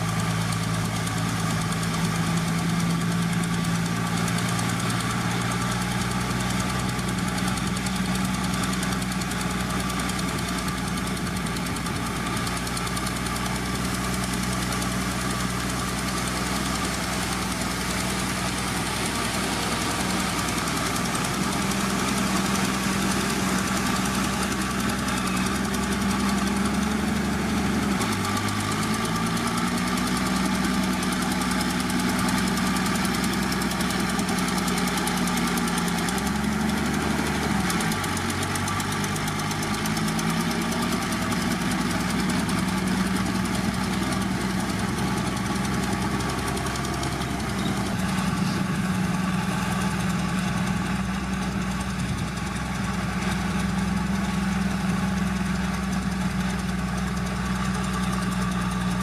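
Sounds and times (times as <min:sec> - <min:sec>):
heavy diesel engine clattering: 0:00.0 - 0:59.0.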